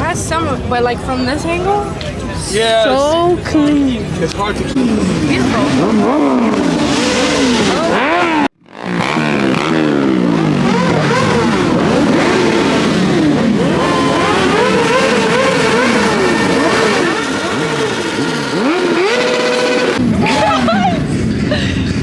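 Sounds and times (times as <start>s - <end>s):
car engines revving: 3.1s - 22.0s.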